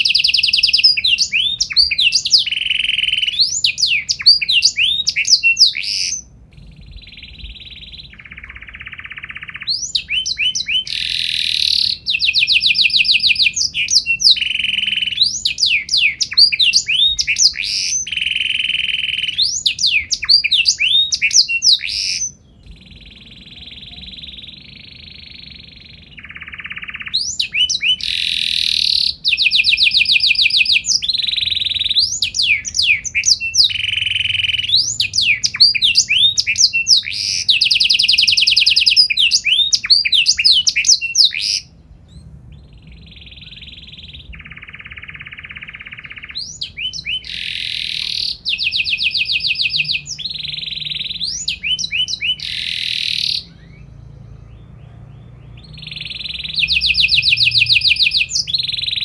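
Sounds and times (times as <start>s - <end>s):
canary singing trills and whistles: 0.0s - 59.0s.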